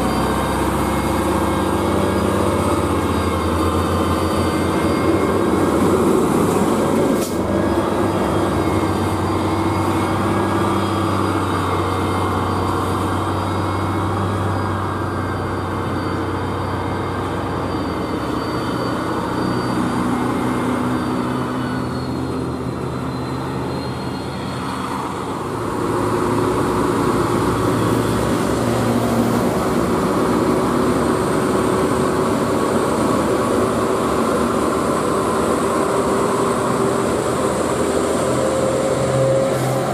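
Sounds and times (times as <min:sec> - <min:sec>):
approaching truck engine: 0:00.0 - 0:39.9
heavy diesel trucks climbing: 0:00.0 - 0:39.9.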